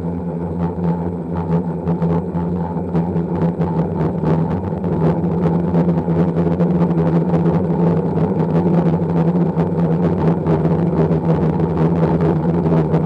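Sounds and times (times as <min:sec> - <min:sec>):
drone propellers droning: 0:00.0 - 0:13.0.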